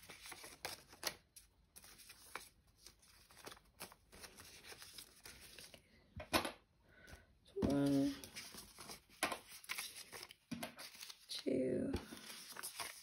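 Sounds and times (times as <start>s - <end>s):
banknotes rustling: 0.0s - 5.8s, 7.6s - 13.0s.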